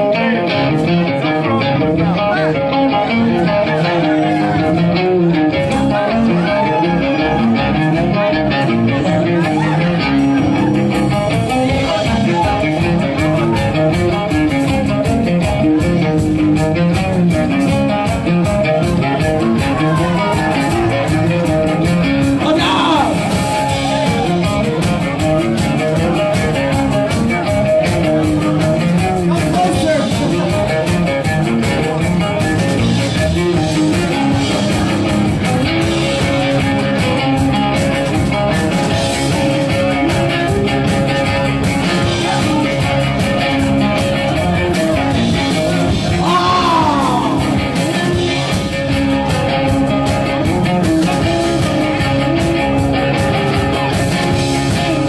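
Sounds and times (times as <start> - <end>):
rock music: 0.0 - 55.0
steady drum beat: 0.0 - 55.0.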